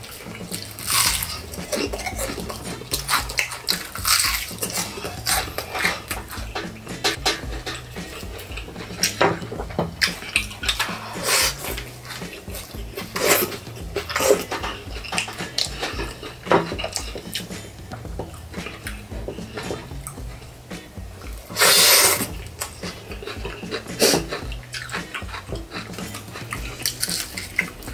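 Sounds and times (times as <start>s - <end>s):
crunching and chewing: 0.0s - 27.9s
gloved hands clicking and rustling: 0.0s - 27.9s.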